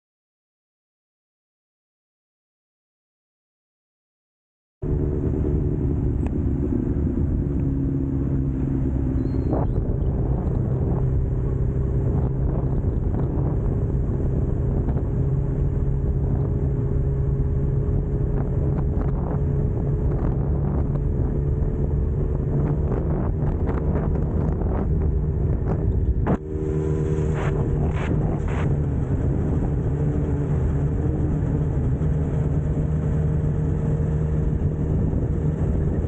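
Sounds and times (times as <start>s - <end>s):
microphone noise: 4.8s - 36.0s
motorcycle engine running: 4.8s - 36.0s.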